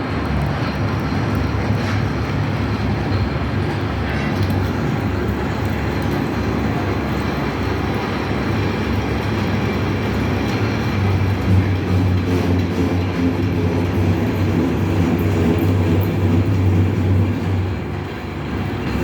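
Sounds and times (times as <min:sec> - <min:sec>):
noisy clatter: 0:00.0 - 0:19.0.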